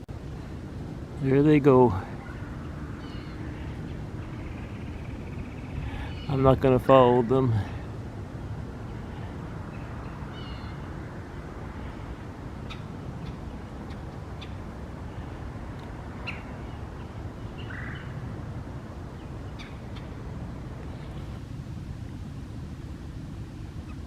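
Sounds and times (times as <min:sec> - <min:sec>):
birds chirping: 0:01.2 - 0:21.4.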